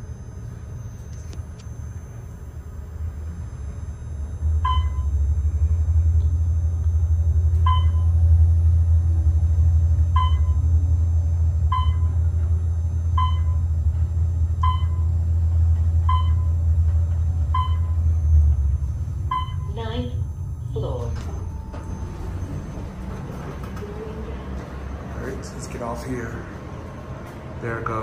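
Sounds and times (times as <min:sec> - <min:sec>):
elevator ride rumble: 0:00.0 - 0:28.0.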